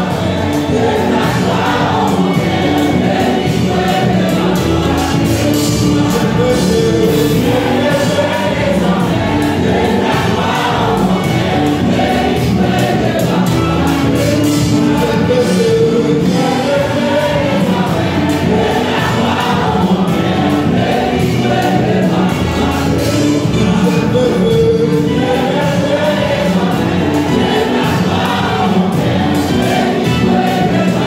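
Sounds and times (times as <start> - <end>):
choir singing a gospel hymn: 0.0 - 31.0
music with a steady beat: 0.0 - 31.0.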